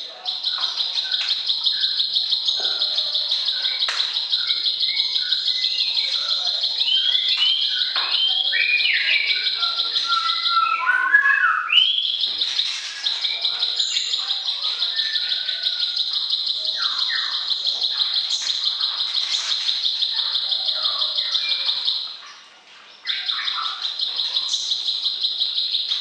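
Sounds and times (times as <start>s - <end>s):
whistled bird phrases: 0.2s - 22.4s, 23.0s - 26.0s.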